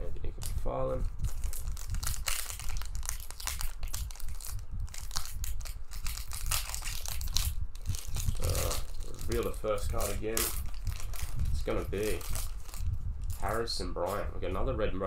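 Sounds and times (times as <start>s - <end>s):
foil wrapper crinkling: 0.3s - 14.2s.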